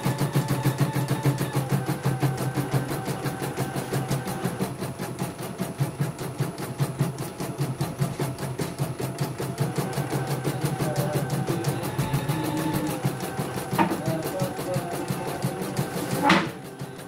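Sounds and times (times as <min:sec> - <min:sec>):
embroidery machine stitching: 0:00.0 - 0:17.0.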